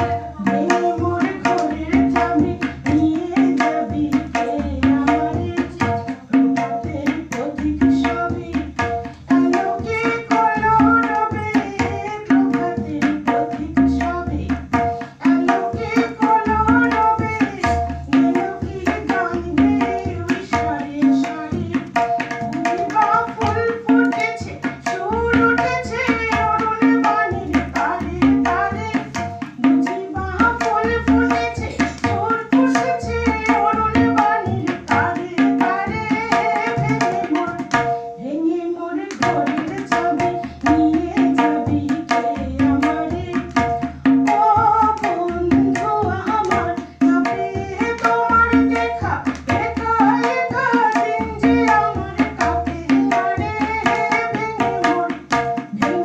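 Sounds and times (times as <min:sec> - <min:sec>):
tabla rhythm: 0:00.0 - 0:56.0
woman singing into a microphone: 0:00.0 - 0:56.0.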